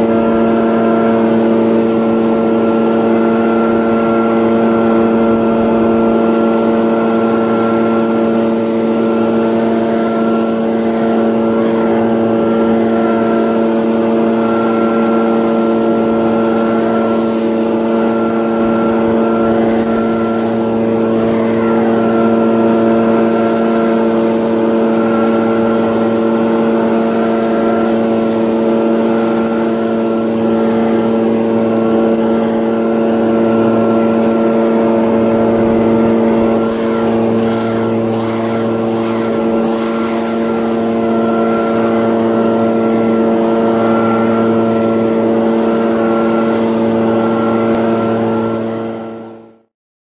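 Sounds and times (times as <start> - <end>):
air rushing from blower tube: 0.0 - 49.6
leaf blower engine running: 0.0 - 49.7.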